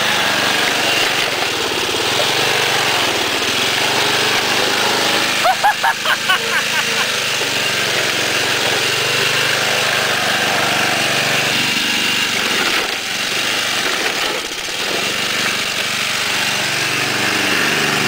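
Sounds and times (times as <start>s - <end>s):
lawn tractor engine running: 0.0s - 18.0s.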